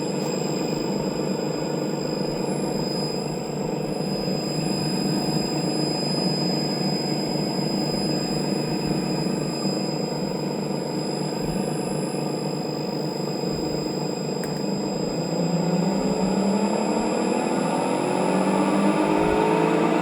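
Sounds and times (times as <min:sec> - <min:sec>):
high-pitched whine: 0:00.0 - 0:20.0.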